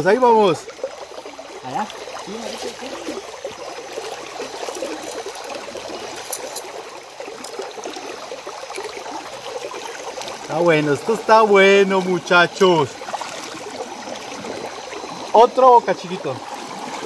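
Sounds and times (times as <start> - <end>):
river water running and trickling: 0.0 - 17.0.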